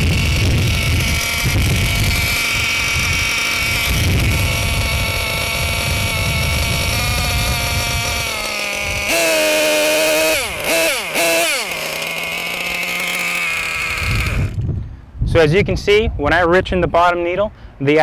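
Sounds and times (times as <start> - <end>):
two-stroke engine idling: 0.0 - 14.6.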